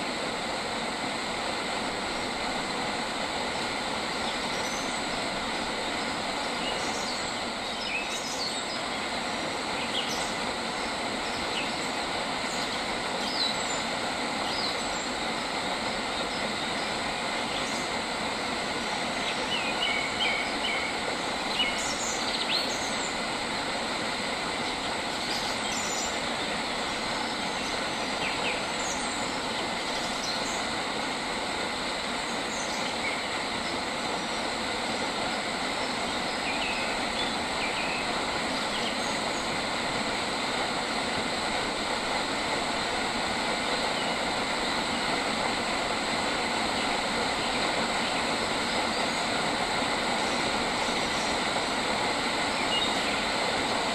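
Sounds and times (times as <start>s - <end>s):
faint high whine: 0.0s - 53.9s.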